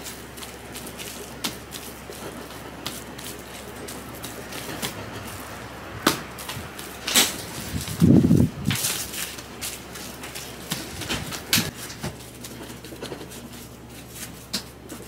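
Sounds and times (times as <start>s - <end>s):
cling film crinkling: 0.0s - 15.0s.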